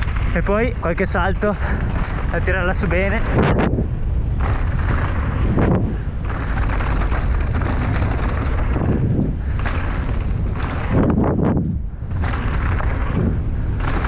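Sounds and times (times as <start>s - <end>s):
bike knocking over bumps: 0.0s - 14.0s
bike tyres rolling on gravel: 0.0s - 14.0s
wind rumble on microphone: 0.0s - 14.0s.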